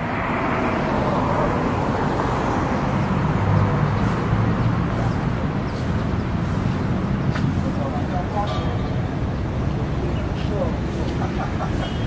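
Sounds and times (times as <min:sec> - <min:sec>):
roadside traffic passing: 0:00.0 - 0:12.0.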